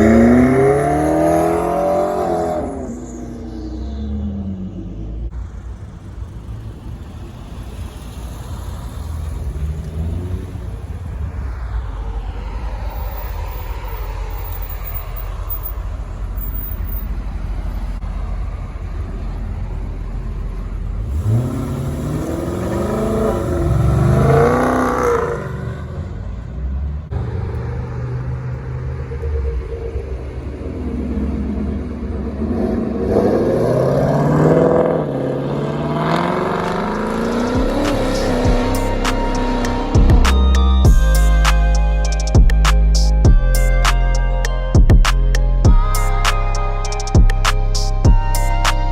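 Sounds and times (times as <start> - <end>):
engine revving: 0.0 - 5.4, 7.6 - 48.9
car engines rumbling: 0.0 - 48.9.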